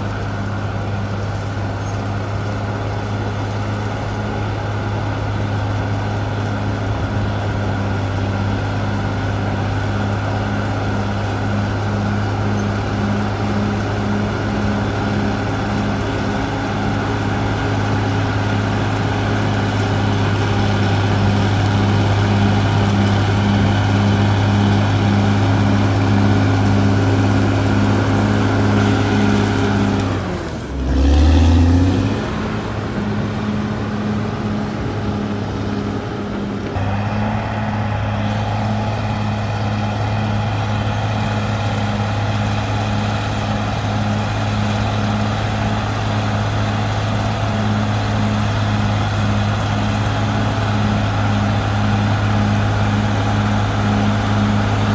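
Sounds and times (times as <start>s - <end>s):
bulldozer diesel engine: 0.0s - 54.9s.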